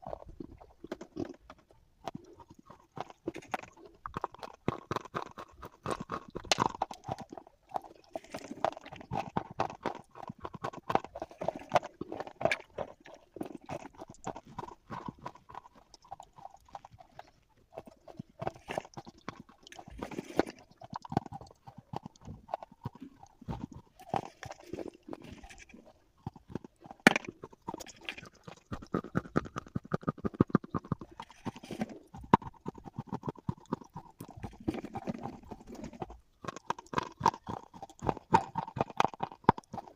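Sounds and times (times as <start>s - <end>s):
slate pencils crunching when chewed: 0.0s - 39.9s.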